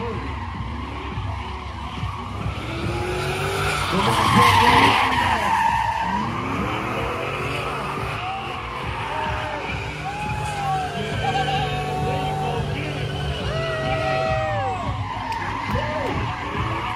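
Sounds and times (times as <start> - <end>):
truck engine revving: 0.0 - 16.9
tyres squealing: 0.0 - 16.9.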